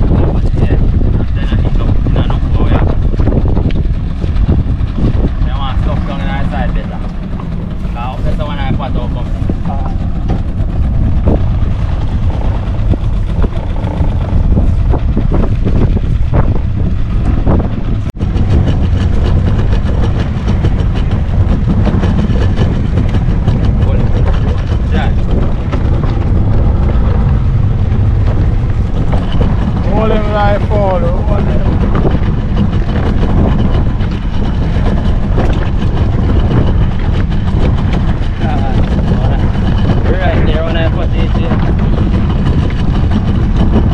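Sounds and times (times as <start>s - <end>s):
boat motor rumble: 0.0s - 43.9s
wind buffeting microphone: 0.0s - 43.9s.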